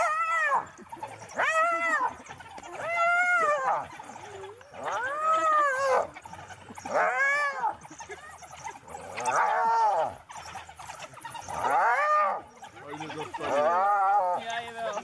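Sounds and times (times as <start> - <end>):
hyena squealing calls: 0.0 - 15.0.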